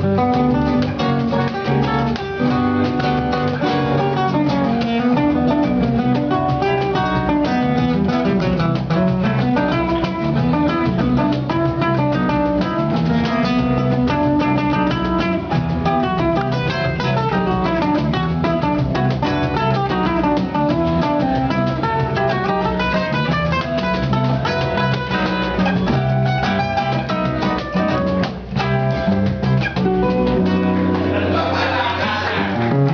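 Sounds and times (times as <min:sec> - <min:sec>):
plucked string music: 0:00.0 - 0:32.9.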